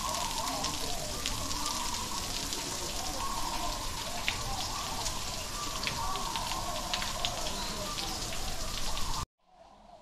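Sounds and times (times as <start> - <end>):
distant indistinct voices: 0.0 - 8.8.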